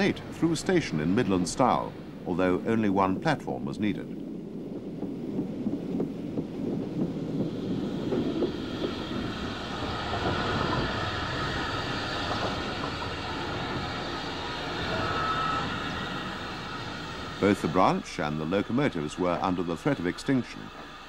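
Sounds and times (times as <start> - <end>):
steady steam hiss: 0.0 - 21.0
steam train rumble: 0.0 - 21.0.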